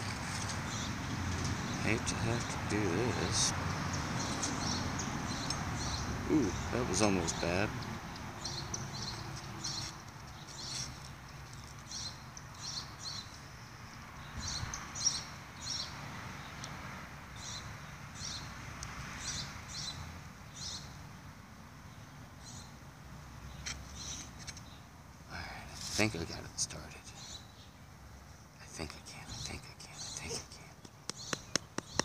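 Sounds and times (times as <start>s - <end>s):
bird chirping: 0.0s - 16.6s, 19.2s - 21.0s, 23.4s - 32.0s.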